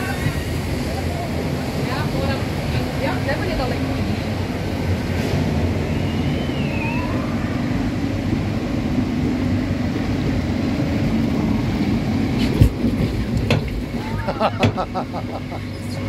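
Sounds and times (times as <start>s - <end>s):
lift machinery running: 0.0s - 16.0s.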